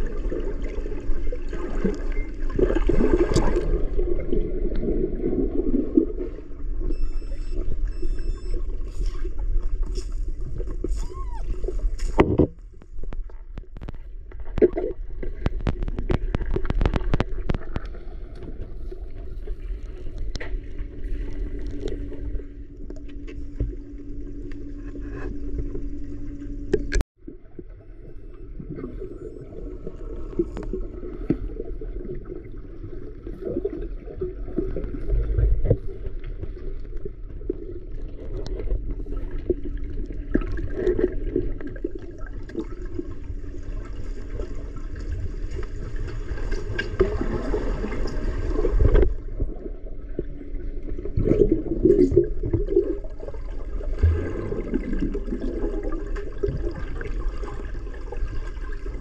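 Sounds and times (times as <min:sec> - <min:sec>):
faint steady hum: 0:00.0 - 0:59.0
underwater rumble of moving water: 0:00.0 - 0:59.0.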